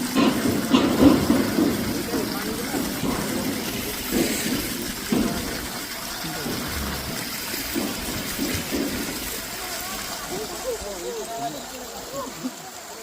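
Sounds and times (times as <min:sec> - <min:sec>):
waterfall running water: 0:00.0 - 0:13.0.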